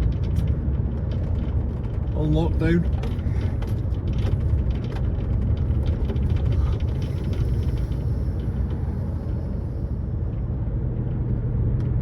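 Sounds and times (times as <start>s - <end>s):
engine drone: 0.0s - 12.0s
road rumble: 0.0s - 12.0s.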